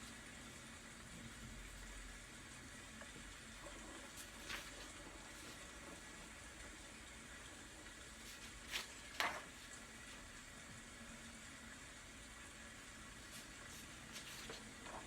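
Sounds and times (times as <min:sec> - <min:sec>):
soft rain: 0:00.0 - 0:15.0.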